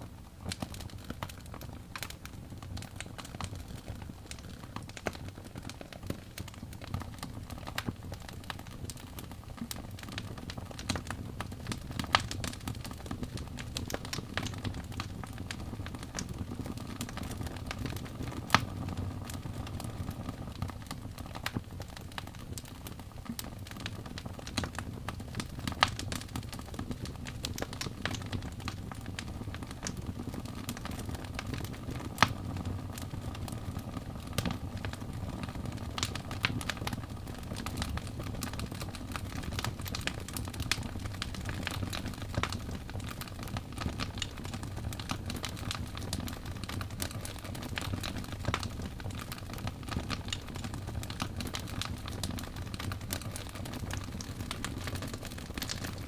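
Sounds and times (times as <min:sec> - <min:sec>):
low rumble of fire: 0:00.0 - 0:56.0
wood fire crackling: 0:00.0 - 0:56.0.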